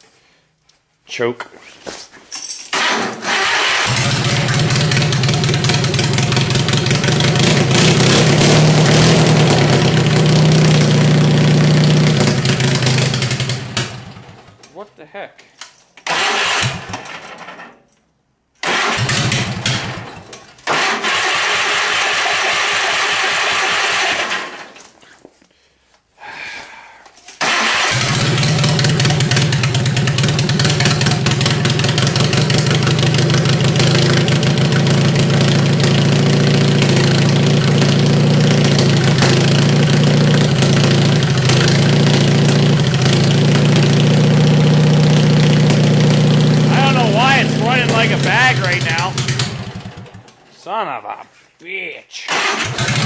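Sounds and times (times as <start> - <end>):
garden tractor engine starting: 2.8 - 14.6, 16.0 - 17.6, 18.6 - 24.9, 27.4 - 50.4, 52.3 - 53.0.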